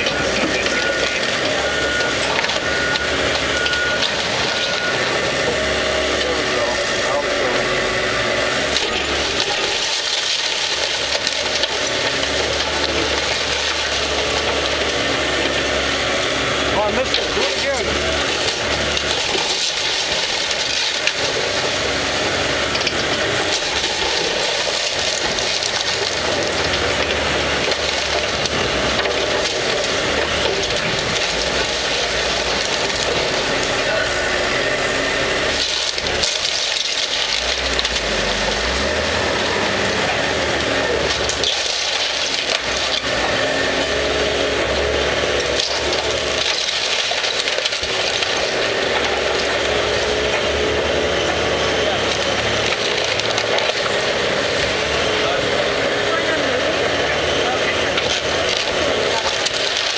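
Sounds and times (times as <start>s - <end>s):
excavator diesel engine under load: 0.0s - 59.9s
wood splintering and crackling: 0.0s - 59.9s.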